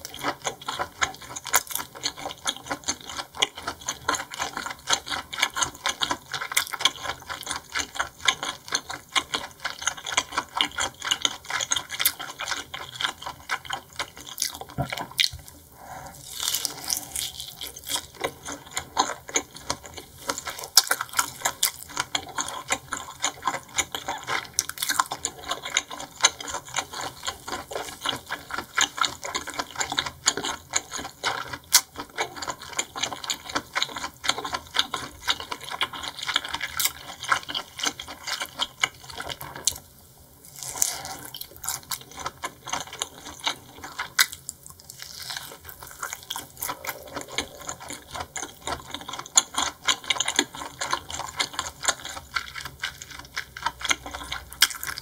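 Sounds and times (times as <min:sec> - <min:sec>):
chewing and wet mouth sounds: 0:00.0 - 0:55.0.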